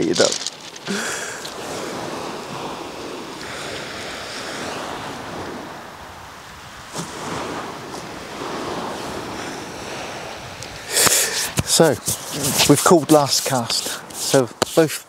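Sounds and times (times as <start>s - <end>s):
surf breaking on shingle beach: 0.0s - 15.0s.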